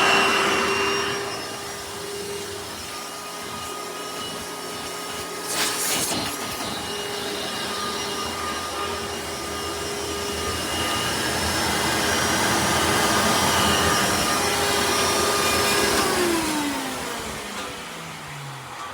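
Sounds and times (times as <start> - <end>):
vacuum cleaner motor whine: 0.0 - 18.9.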